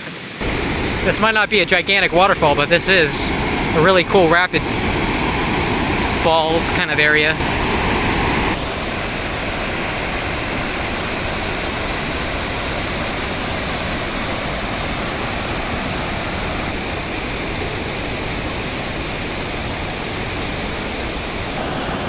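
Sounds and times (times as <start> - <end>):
creek rapids roaring: 0.0 - 22.0.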